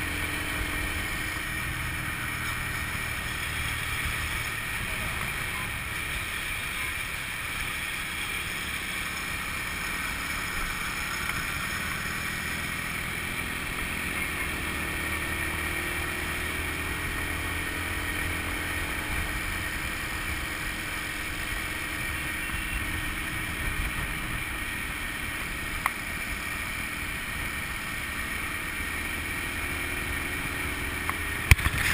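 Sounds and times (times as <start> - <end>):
scooter engine hum: 0.0 - 31.9
wind and road noise: 0.0 - 31.9.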